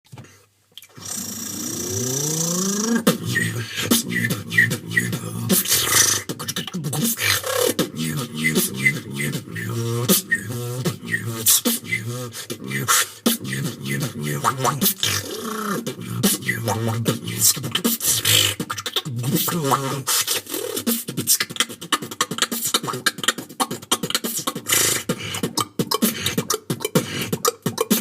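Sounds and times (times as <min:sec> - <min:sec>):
person beatboxing: 0:00.8 - 0:28.0.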